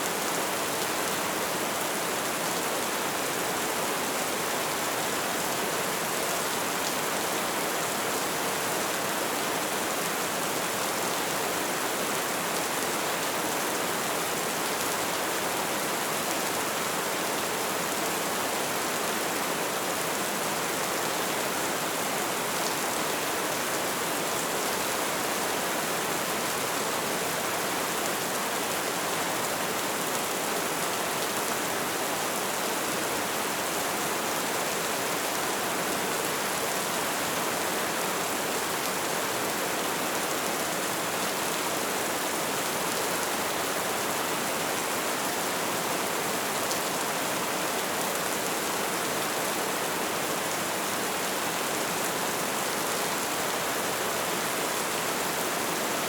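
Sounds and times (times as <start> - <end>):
light rain: 0.0 - 56.0.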